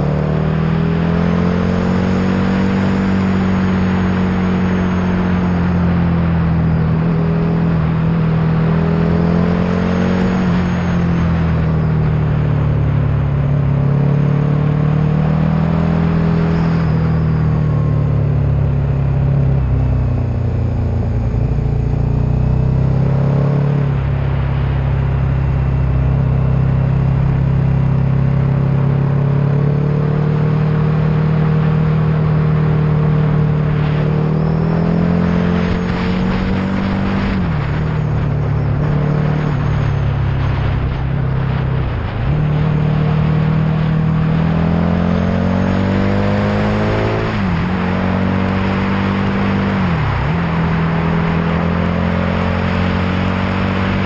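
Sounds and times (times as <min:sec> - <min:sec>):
road noise: 0:00.0 - 0:54.0
vehicle engine accelerating: 0:00.0 - 0:54.0.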